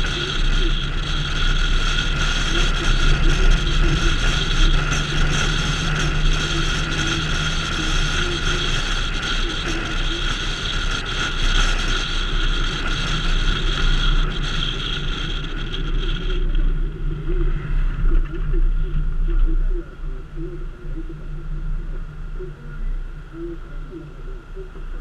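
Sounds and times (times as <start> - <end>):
car tyre and engine noise: 0.0 - 25.0
low hum: 0.0 - 25.0.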